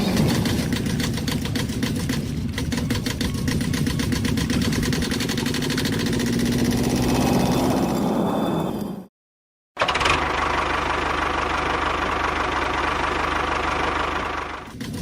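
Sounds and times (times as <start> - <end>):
engine running steadily: 0.0 - 8.0, 9.8 - 15.0.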